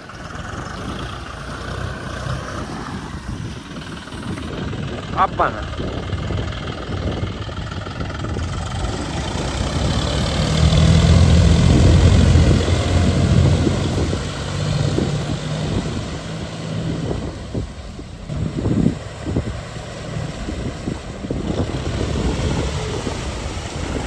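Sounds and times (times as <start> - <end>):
tractor diesel engine humming: 0.0 - 24.0.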